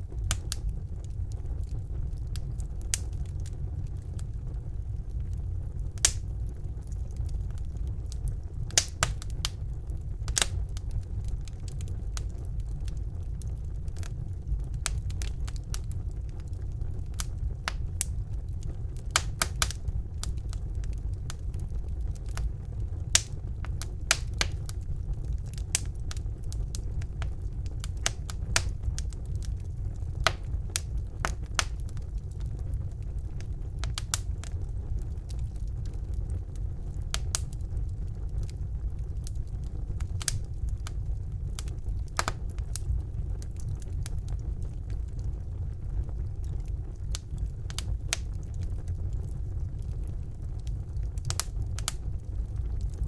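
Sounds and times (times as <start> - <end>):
fire crackling and popping: 0.0 - 53.0
fire rumbling: 0.0 - 53.0.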